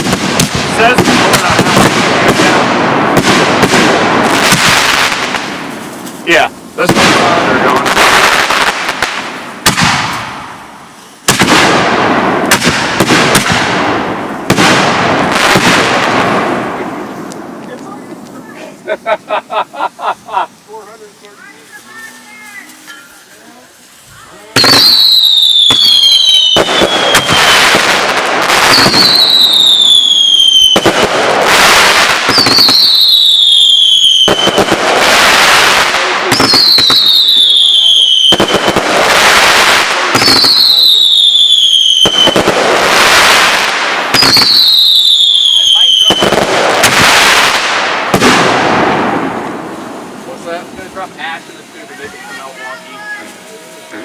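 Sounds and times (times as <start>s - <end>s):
fireworks banging: 0.0s - 54.0s
fireworks crackling hiss: 0.0s - 54.0s.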